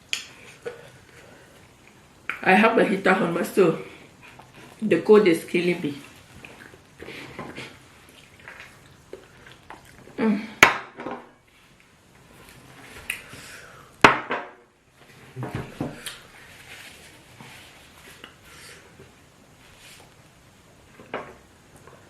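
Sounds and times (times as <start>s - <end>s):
eating and handling noises: 0.0s - 10.6s, 11.4s - 13.9s, 14.9s - 22.0s.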